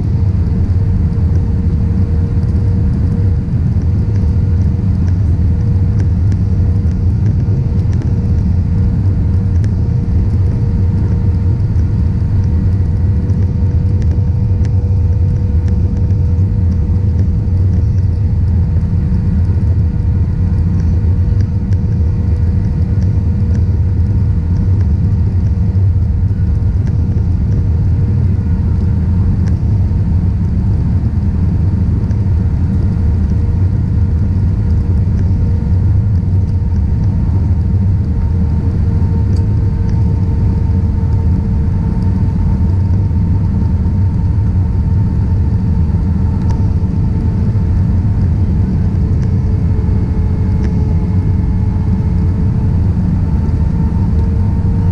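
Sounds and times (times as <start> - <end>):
airplane cabin engine rumble: 0.0 - 54.9
faint engine tones: 0.0 - 54.9.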